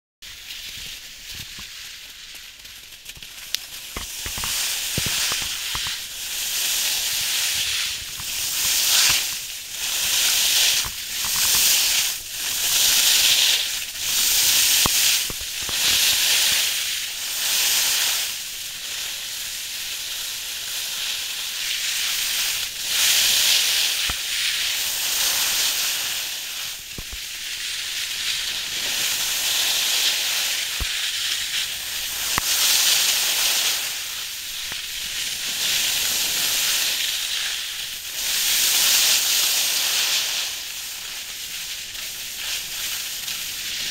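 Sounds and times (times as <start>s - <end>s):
skis scraping over snow: 0.3s - 43.9s.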